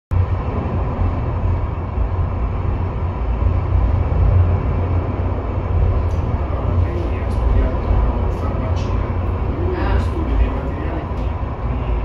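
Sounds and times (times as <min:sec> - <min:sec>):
faint steady whine: 0:00.1 - 0:12.0
low rumble of funicular car: 0:00.1 - 0:12.0.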